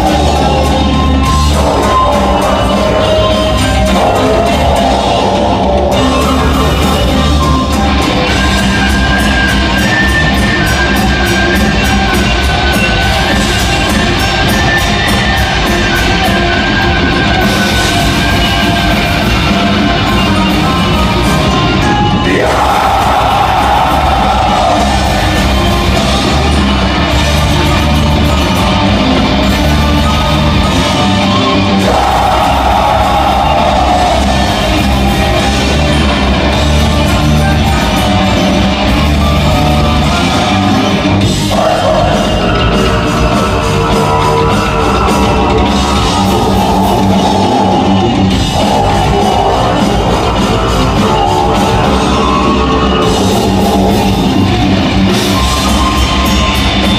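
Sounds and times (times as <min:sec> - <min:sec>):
yelled or sung vocals: 0:00.0 - 0:09.2, 0:09.8 - 0:56.9
cymbals keeping a beat: 0:00.0 - 0:56.9
live metal band playing: 0:00.0 - 0:56.9.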